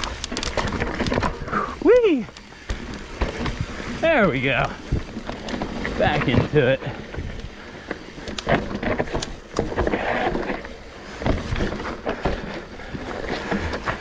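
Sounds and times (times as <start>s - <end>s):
bike knocks and rattles: 0.0s - 14.0s
tyres running over dirt and rocks: 0.0s - 14.0s.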